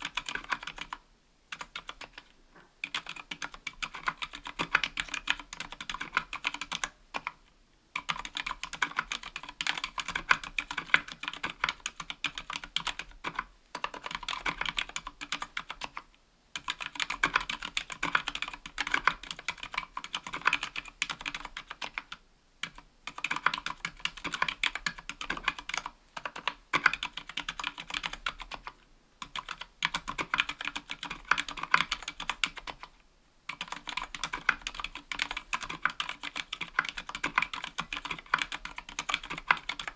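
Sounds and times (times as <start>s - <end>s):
mechanical keyboard typing: 0.0s - 7.4s, 8.0s - 32.9s, 33.5s - 39.9s.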